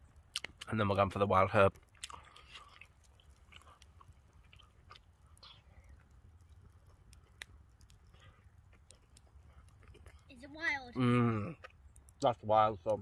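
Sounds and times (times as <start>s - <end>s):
chewing food: 0.2s - 0.7s, 1.7s - 12.2s.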